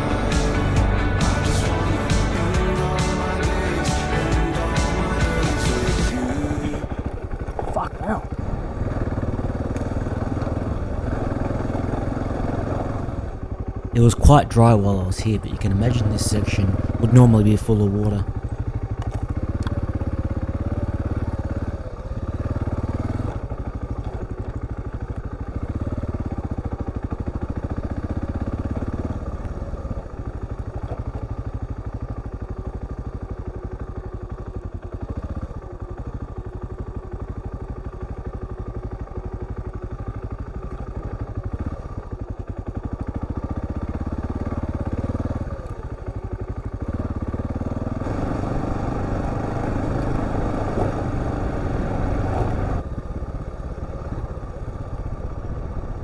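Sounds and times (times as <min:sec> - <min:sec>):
motorcycle engine on dirt track: 0:00.0 - 0:56.0.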